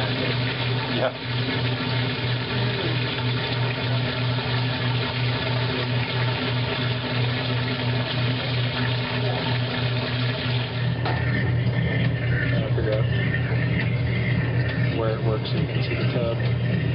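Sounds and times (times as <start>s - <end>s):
washing machine motor humming: 0.0s - 16.9s.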